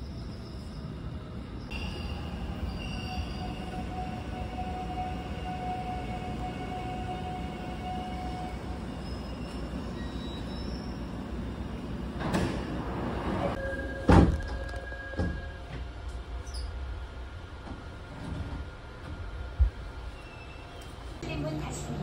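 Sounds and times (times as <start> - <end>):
subway train low rumble: 0.0 - 22.0.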